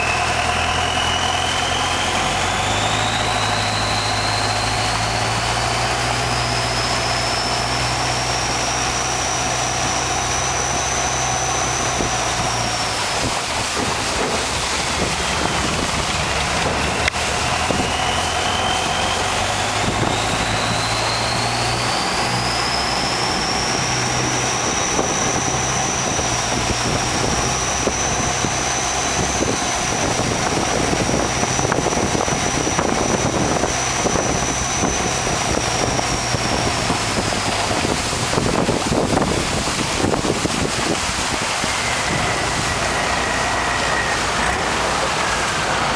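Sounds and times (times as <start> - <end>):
boat engine running: 0.0 - 45.9
high whine: 0.0 - 45.9
water rushing: 0.0 - 45.9
wind: 0.0 - 45.9.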